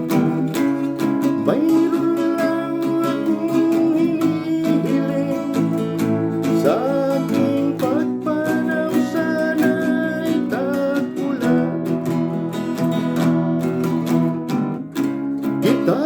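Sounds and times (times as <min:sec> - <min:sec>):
person singing: 0:00.0 - 0:14.1, 0:14.7 - 0:16.0
acoustic guitar strumming: 0:00.0 - 0:16.0.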